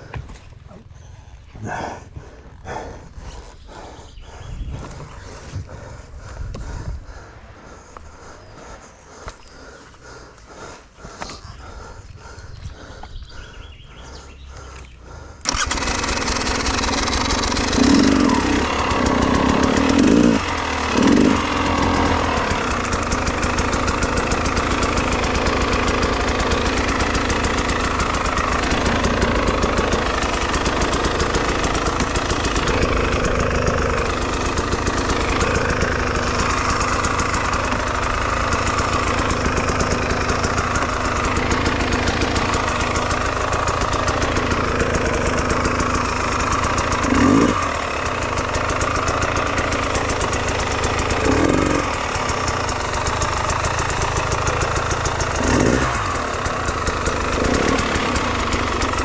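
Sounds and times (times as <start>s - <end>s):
motorcycle engine idling: 0.0s - 59.0s
motorcycle engine starting: 0.0s - 59.0s
motorcycle engine revving: 1.6s - 59.0s.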